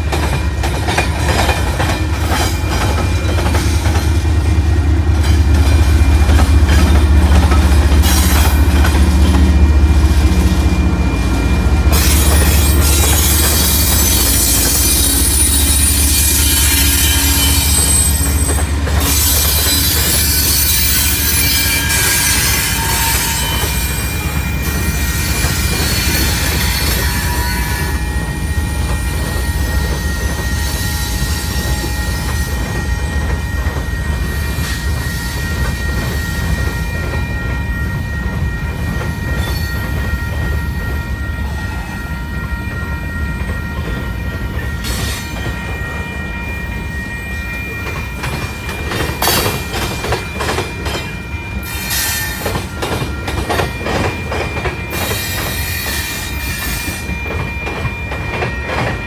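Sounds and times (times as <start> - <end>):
train cars rumbling: 0.0 - 59.0
high wheel squeal: 5.8 - 59.0.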